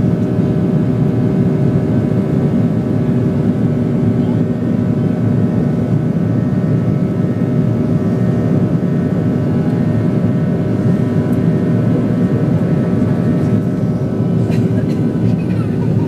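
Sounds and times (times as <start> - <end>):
airflow rush and jet engine drone: 0.0 - 16.0.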